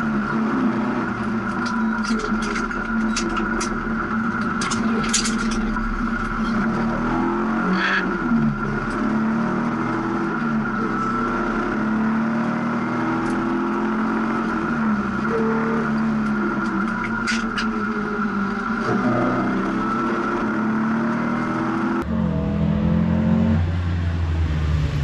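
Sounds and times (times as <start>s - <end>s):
rally car engine driven hard: 0.0s - 25.0s.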